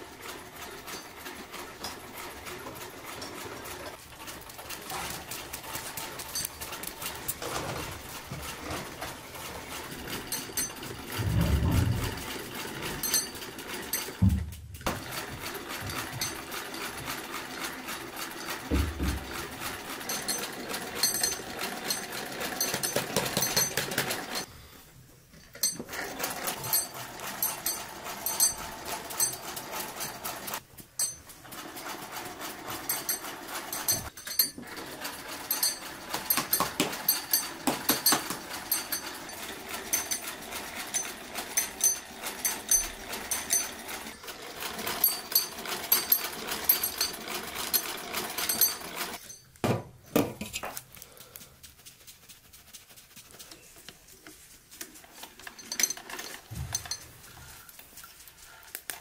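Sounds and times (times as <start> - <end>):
sewing machine clattering: 0.0 - 24.5, 25.5 - 49.5, 55.0 - 57.7.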